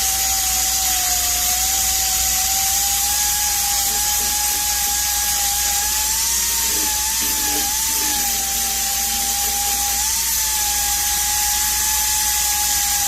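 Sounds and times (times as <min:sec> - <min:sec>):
small power tool whine: 0:00.0 - 0:13.0.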